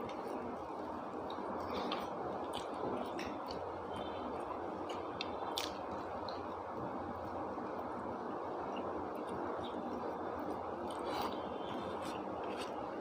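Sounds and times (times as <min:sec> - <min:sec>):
person chewing food: 0:00.0 - 0:06.6, 0:08.7 - 0:13.0.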